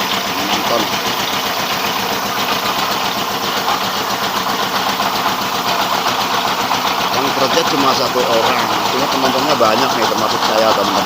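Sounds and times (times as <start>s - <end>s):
diesel engine beat: 0.0s - 11.0s
milling machine hiss: 0.0s - 11.0s.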